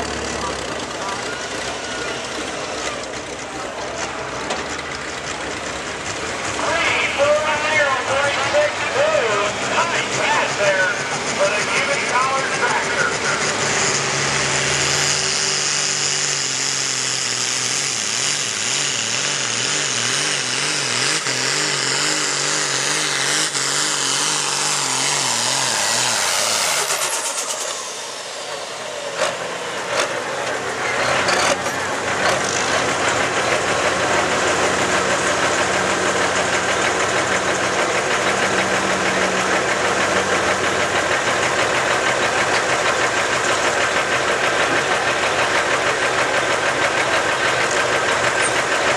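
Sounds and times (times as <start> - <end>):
tractor diesel engine at full throttle: 0.0 - 48.9
tractor engine idling: 0.0 - 48.9.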